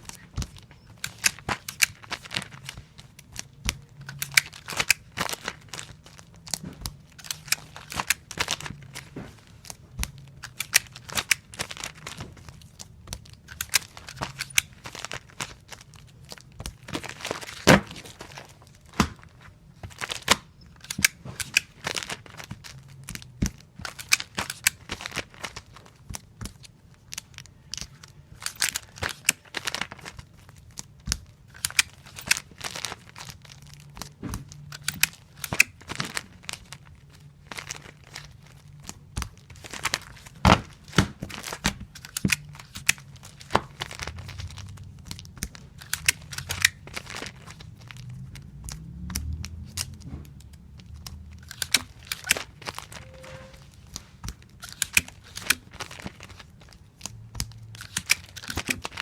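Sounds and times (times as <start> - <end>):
paper crinkling: 0.0 - 59.0.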